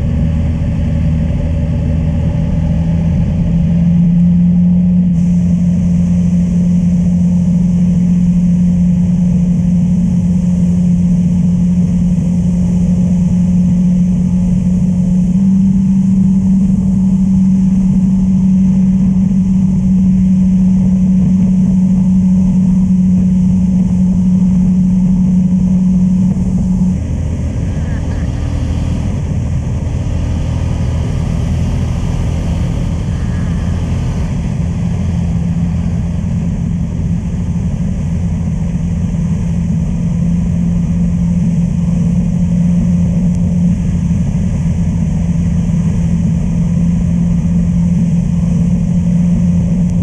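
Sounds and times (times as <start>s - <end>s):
motorcycle engine cruising: 0.0s - 42.4s
wind and road rush: 0.0s - 50.0s.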